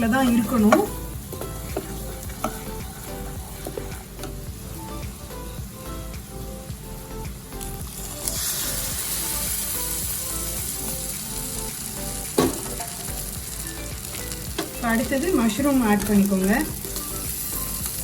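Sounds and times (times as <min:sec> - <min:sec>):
batter sizzling in a pan: 0:00.0 - 0:18.0
soft background music: 0:00.0 - 0:18.0.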